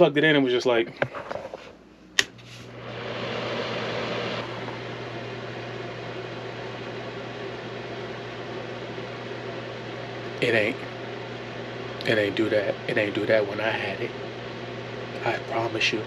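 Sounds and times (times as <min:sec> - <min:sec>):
low electrical hum: 0:00.0 - 0:16.0
space heater fan blowing: 0:00.0 - 0:16.0.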